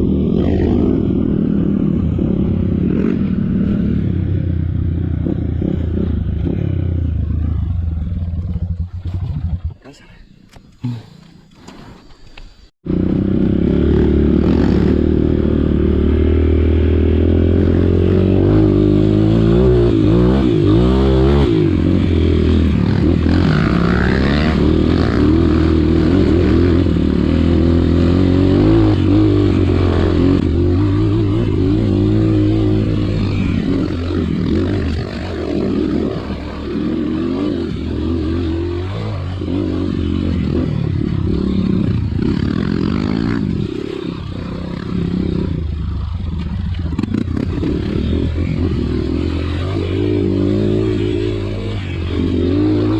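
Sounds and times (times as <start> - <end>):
motorcycle engine revving: 0.0 - 9.9, 10.6 - 52.9.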